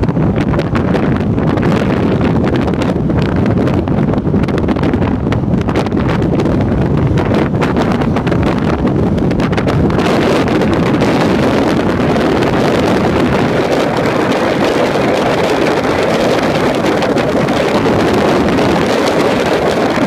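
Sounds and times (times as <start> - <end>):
car engine drone: 0.0 - 20.0
wind buffeting microphone: 0.0 - 20.0
wind rush: 0.0 - 20.0.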